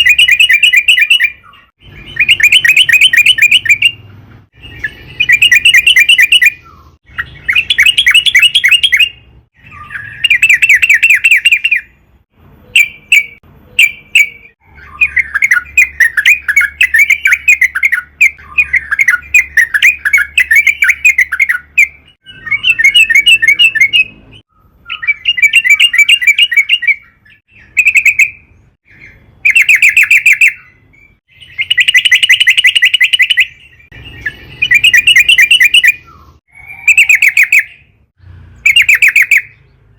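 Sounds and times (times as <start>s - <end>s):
bulbul singing chattering notes: 0.0s - 12.0s, 12.7s - 38.0s.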